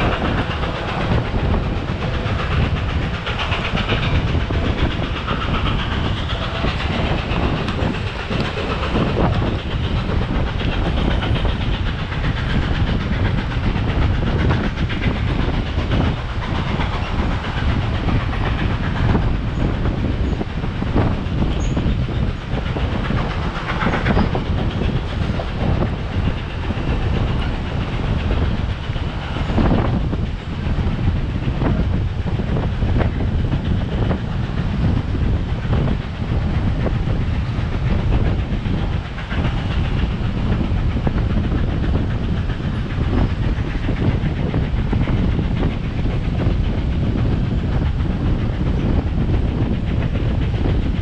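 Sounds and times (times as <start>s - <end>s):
rail joint clicks and knocks: 0.0s - 51.0s
train wheels rumbling on rail: 0.0s - 51.0s
wind on microphone: 0.0s - 51.0s.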